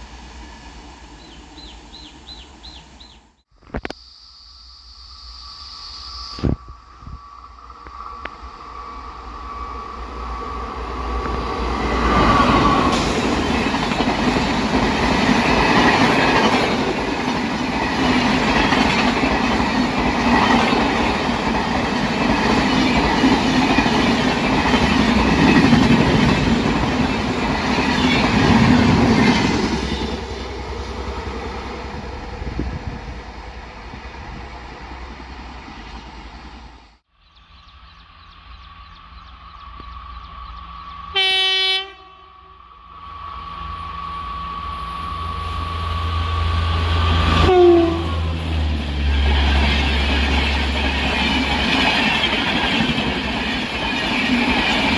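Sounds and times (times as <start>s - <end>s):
train passing at speed: 0.0s - 3.4s, 6.2s - 37.1s, 38.0s - 54.9s.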